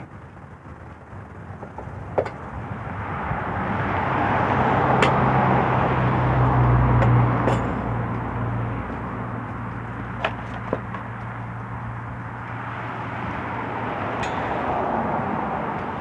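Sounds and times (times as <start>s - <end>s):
vehicle passing by: 2.6s - 16.0s.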